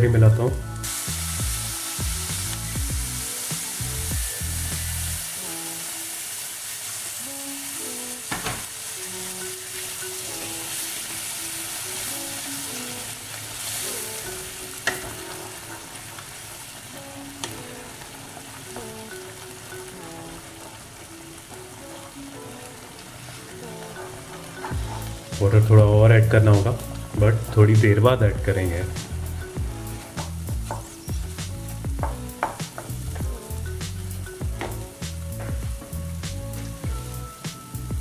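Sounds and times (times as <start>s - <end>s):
soft background music: 0.0s - 38.0s
water sizzling in hot pan: 0.0s - 38.0s.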